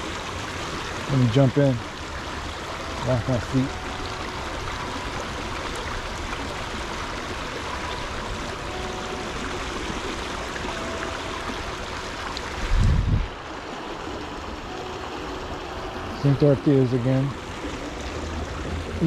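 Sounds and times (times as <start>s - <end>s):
stream rushing water: 0.0s - 19.0s.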